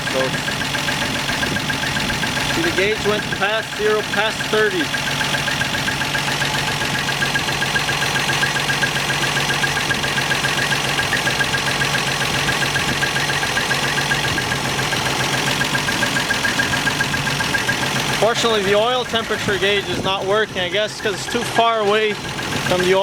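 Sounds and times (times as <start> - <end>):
car engine idling: 0.0 - 23.0
rapid engine ticking: 0.0 - 23.0.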